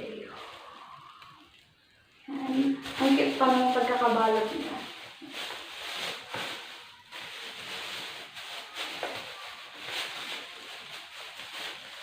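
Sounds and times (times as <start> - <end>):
parcel packaging rustling: 0.0 - 12.0.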